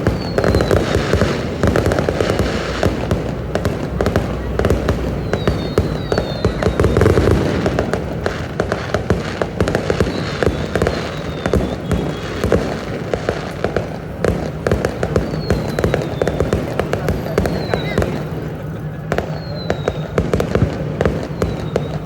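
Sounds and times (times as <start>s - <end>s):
falling firework whistles: 0.0s - 22.0s
fireworks cracks and bangs: 0.0s - 22.0s.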